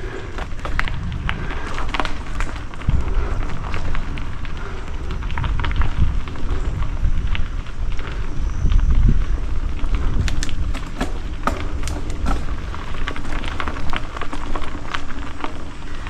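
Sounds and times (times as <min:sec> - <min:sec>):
bike clicks and rattles: 0:00.0 - 0:16.0
tyres crunching over gravel: 0:00.0 - 0:16.0
wind buffeting microphone: 0:00.0 - 0:16.0.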